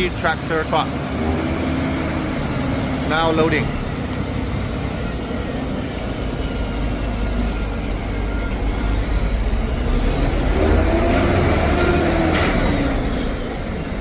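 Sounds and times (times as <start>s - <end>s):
heavy truck engine rumbling: 0.0s - 14.0s.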